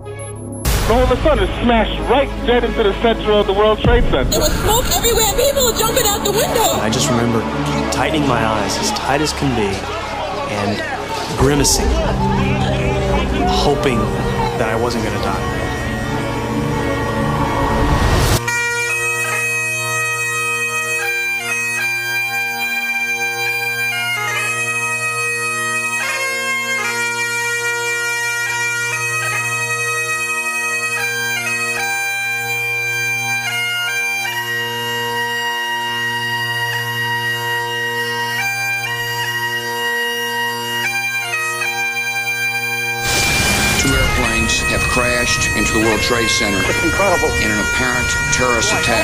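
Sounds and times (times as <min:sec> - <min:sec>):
bagpipes playing slow melody: 0:04.3 - 0:09.2, 0:11.4 - 0:49.0
bagpipe drone: 0:04.3 - 0:49.0.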